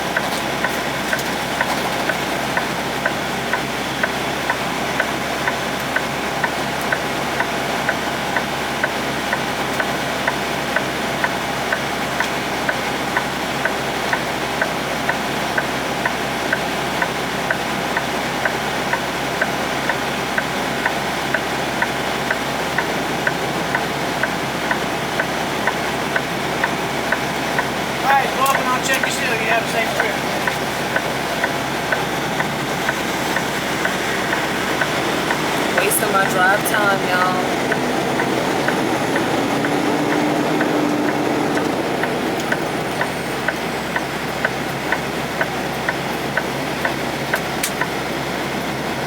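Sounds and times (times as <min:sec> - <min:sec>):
flasher relay clicking: 0:00.0 - 0:48.1
diesel engine idling: 0:00.0 - 0:49.0.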